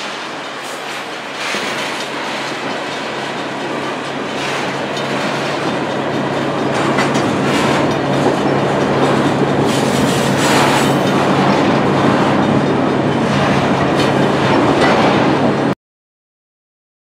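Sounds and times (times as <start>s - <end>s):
train wheels rumbling on rail: 0.0s - 15.8s.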